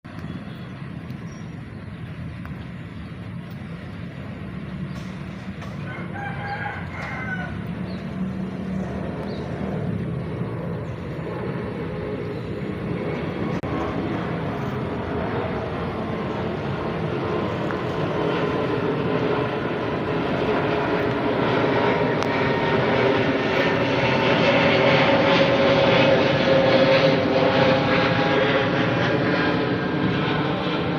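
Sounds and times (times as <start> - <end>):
airplane engine drone: 0.0 - 30.9.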